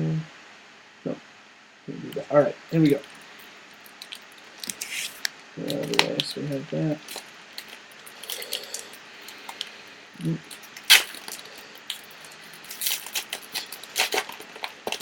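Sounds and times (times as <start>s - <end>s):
wrapper crinkling and tearing: 2.8s - 15.0s.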